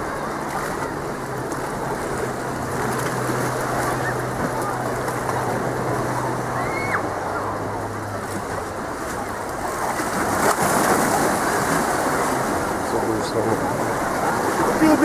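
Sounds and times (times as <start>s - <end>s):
sea waves splashing against rocks: 0.0s - 15.0s.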